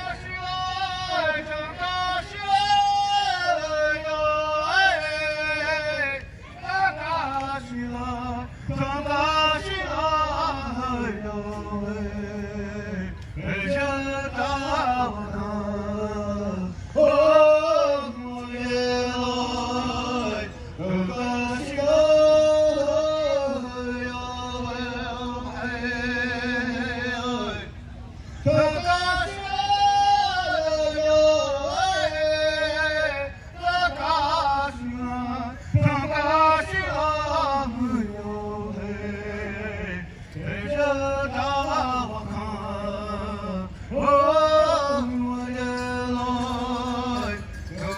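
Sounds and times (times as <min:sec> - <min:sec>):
man singing: 0:00.0 - 0:27.8, 0:28.4 - 0:47.9.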